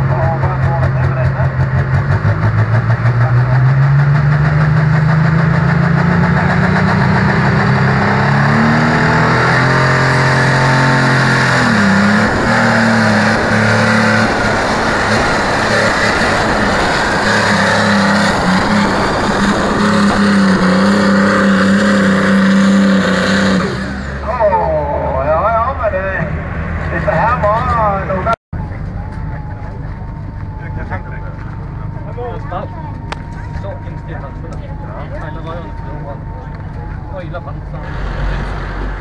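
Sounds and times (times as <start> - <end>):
diesel tractor engine revving: 0.0 - 39.0.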